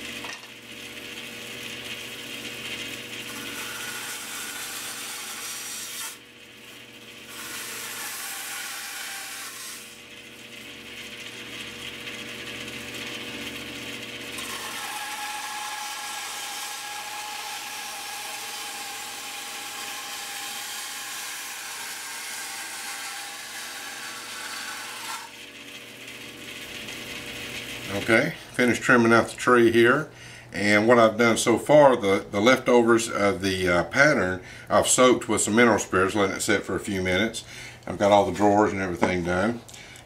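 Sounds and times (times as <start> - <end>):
band saw motor hum: 0.0 - 40.0.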